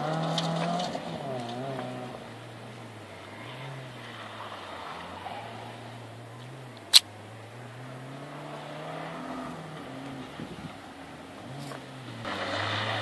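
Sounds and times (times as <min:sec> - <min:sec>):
distant rally car engine revving: 0:00.0 - 0:13.0.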